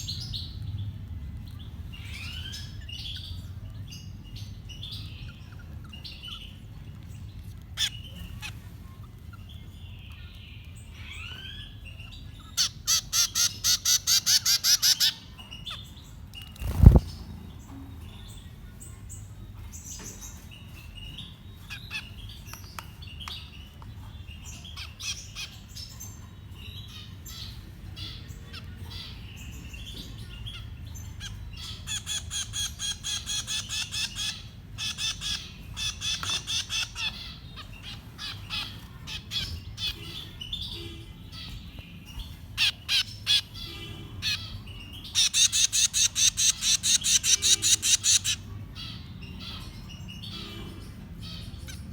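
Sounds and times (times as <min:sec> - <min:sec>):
baby birds chirping: 0:00.0 - 0:51.9.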